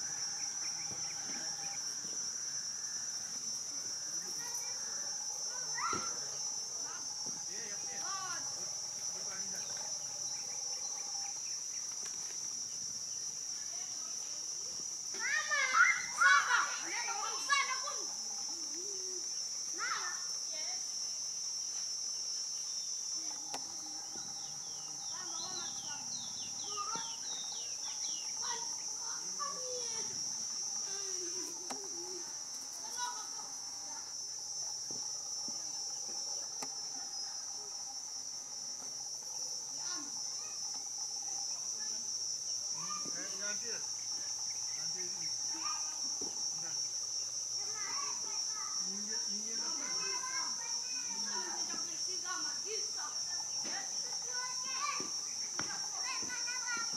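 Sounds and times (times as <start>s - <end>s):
shrill insect chorus drone: 0.0s - 56.9s.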